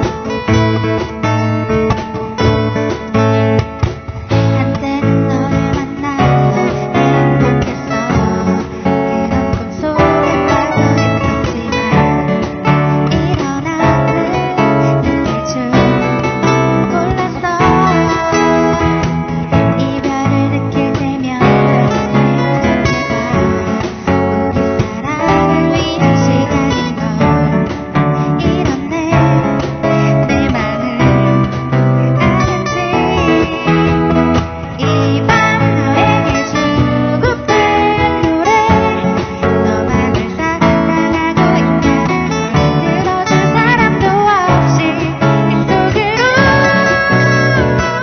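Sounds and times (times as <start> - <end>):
band playing live: 0.0 - 48.0
strummed acoustic guitar: 0.0 - 48.0.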